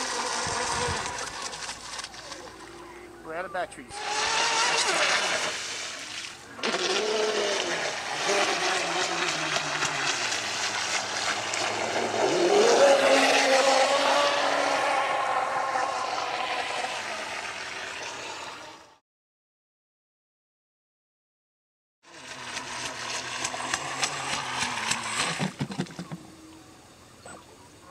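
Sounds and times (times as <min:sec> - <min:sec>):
electric boat motor whining: 0:00.0 - 0:19.0, 0:22.1 - 0:27.2.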